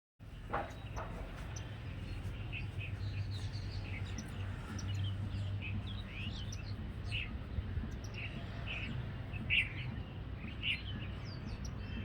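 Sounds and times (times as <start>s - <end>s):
birds chirping: 0.2s - 12.0s
steady low hum: 0.2s - 12.0s.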